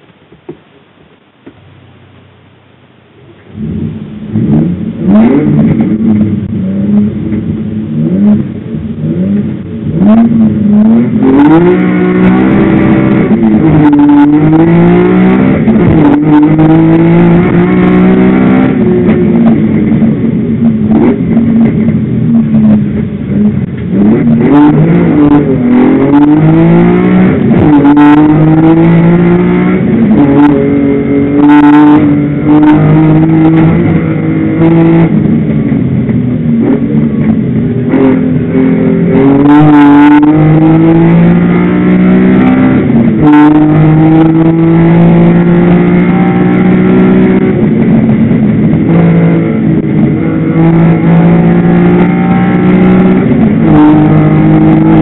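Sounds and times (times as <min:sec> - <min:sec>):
car engine revving: 0:03.2 - 0:55.0.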